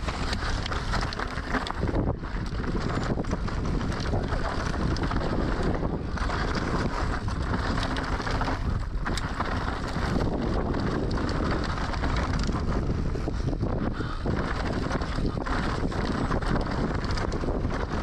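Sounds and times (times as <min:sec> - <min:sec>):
bike rattling: 0:00.0 - 0:18.0
tyres rumbling over dirt: 0:00.0 - 0:18.0
wind buffeting microphone: 0:00.0 - 0:18.0.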